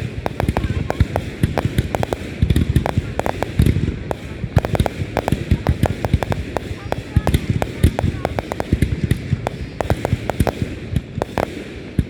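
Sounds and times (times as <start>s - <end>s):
deep firework booms: 0.0s - 12.0s
fireworks bangs and crackles: 0.0s - 12.0s.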